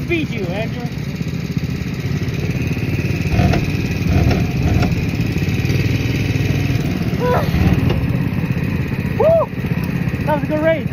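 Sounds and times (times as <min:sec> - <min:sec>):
small engine rumbling: 0:00.0 - 0:10.9.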